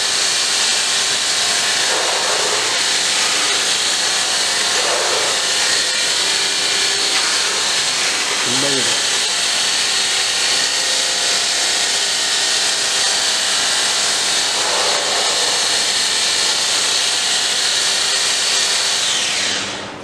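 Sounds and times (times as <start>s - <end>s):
electric blender whisking: 0.0s - 20.0s
motor winding down: 0.0s - 20.0s.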